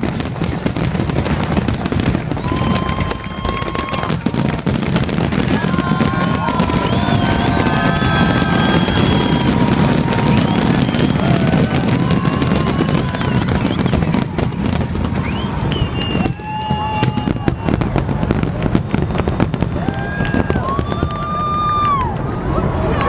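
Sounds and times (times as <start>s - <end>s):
fireworks crackling and popping: 0.0s - 23.0s
whistling fireworks: 0.0s - 23.0s.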